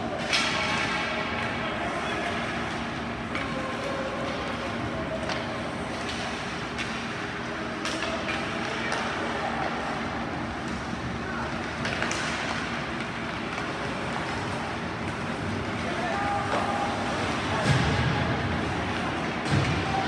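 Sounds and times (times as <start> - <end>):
skating and arena noise: 0.0 - 20.0.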